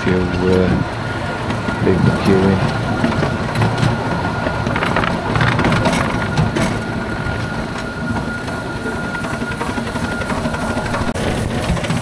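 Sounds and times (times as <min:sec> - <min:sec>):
wheels clicking over rail joints: 0:00.0 - 0:12.0.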